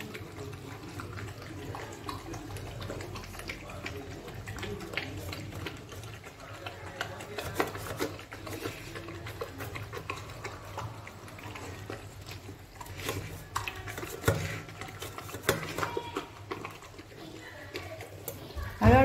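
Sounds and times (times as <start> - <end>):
teeth clinking on metal bowl: 0.0 - 18.9
dog eating from metal bowl: 0.0 - 19.0.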